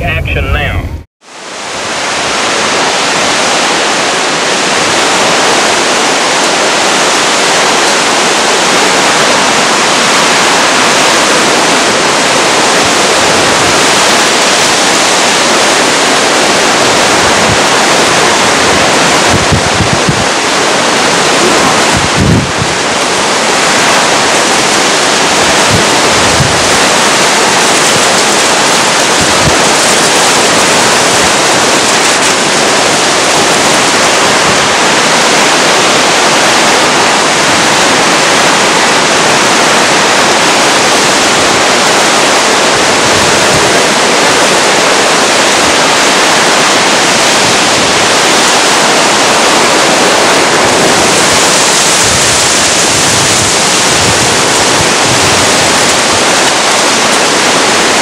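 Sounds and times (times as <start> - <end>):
driving rain: 0.0 - 58.0
hurricane wind: 0.0 - 58.0.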